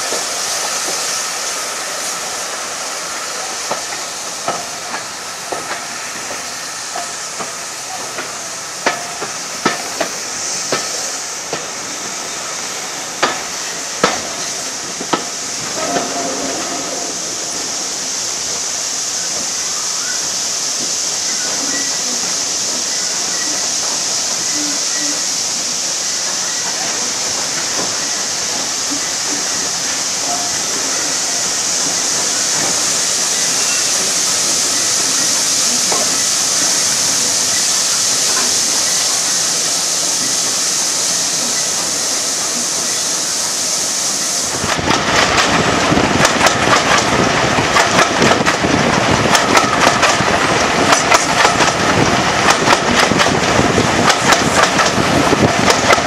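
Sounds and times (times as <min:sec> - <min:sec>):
steady hiss: 0:00.0 - 0:56.0
train rumbling and clattering: 0:00.0 - 0:56.0.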